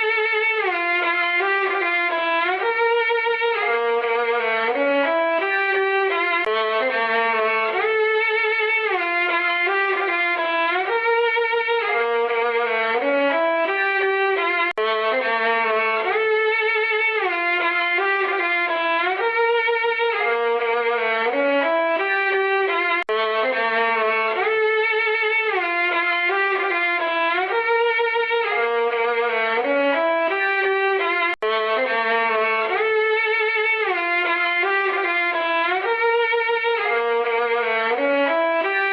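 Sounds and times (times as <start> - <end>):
sad violin tune: 0.0 - 38.9.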